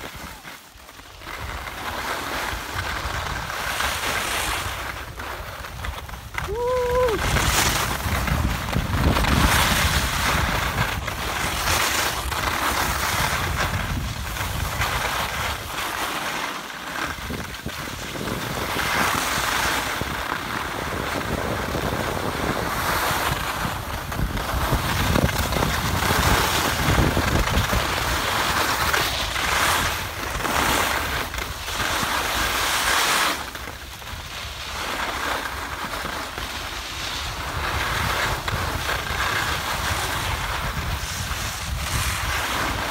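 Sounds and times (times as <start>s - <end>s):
skis scraping on snow: 0.0s - 42.9s
wind rushing over microphone: 1.3s - 15.9s, 17.1s - 32.8s, 36.6s - 42.9s.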